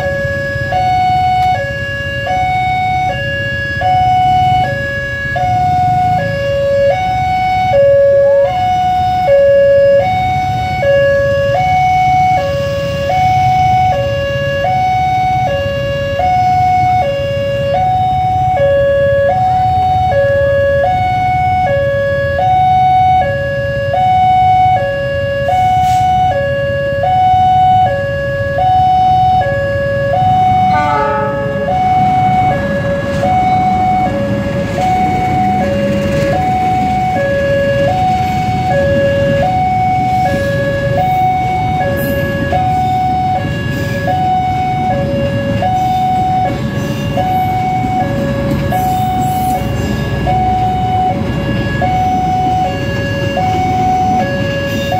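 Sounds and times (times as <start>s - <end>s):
diesel locomotive: 0.0s - 54.9s
railroad crossing alarm: 0.0s - 54.9s.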